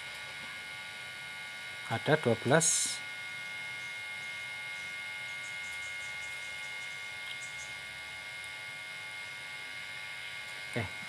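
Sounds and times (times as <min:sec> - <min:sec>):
amplifier electrical hum: 0:00.0 - 0:11.0.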